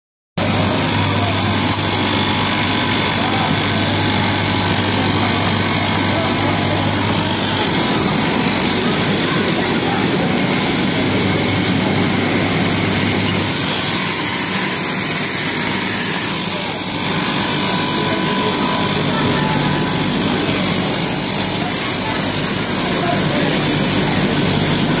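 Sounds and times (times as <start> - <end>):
fabric cutting machine running: 0.4 - 25.0.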